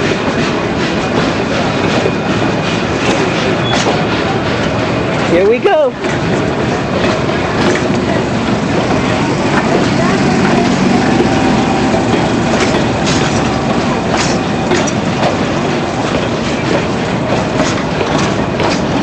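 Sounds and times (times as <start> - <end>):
train rumble: 0.0 - 19.0
train wheels clicking on rail joints: 0.0 - 19.0.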